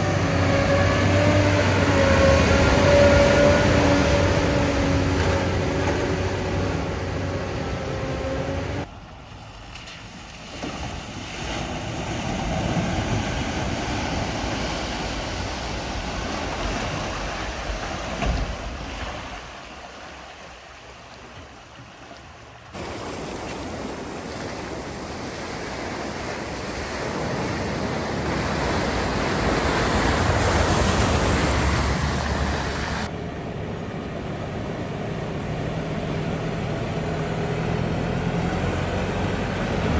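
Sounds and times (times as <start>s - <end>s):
engine hum: 0.0s - 39.9s
water rushing and splashing: 0.0s - 39.9s.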